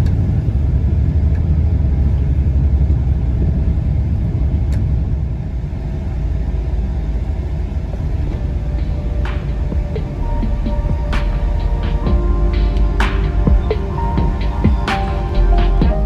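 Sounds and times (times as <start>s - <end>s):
airplane cabin low rumble: 0.0s - 16.0s.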